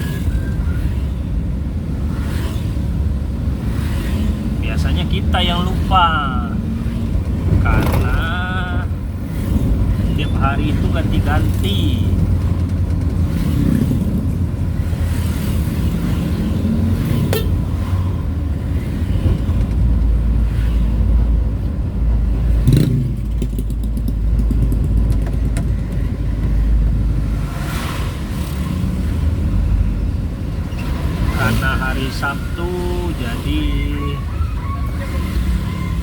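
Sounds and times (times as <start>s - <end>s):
vehicle engine and road rumble: 0.0s - 36.0s.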